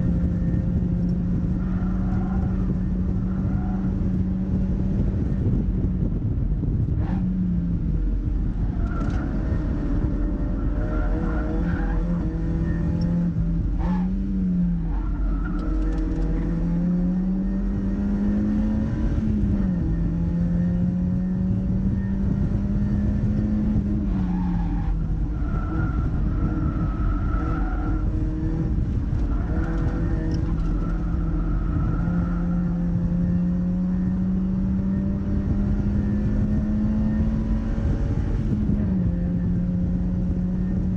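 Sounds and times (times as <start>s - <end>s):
car engine revving through gears: 0.0s - 40.9s
wind and road noise: 0.0s - 40.9s.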